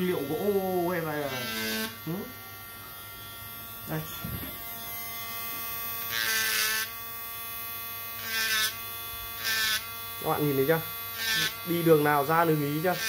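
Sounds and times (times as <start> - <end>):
rotary tool motor whine: 1.1 - 11.9.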